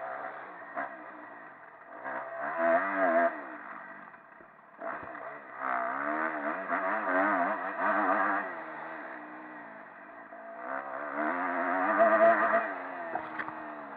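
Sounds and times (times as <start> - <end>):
motocross engine revving: 0.0 - 13.9.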